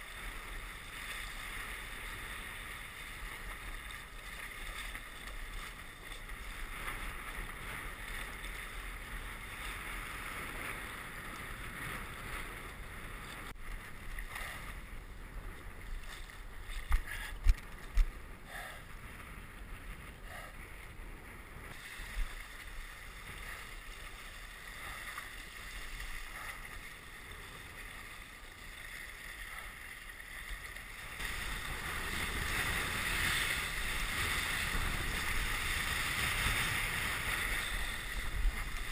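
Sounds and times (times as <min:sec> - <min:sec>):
water and wind rushing: 0:00.0 - 0:38.9.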